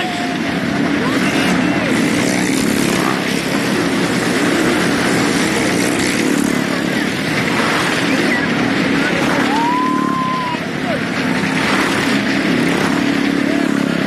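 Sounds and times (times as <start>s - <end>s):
car engine running hard: 0.0s - 14.0s
motorcycle engines running: 0.0s - 14.0s.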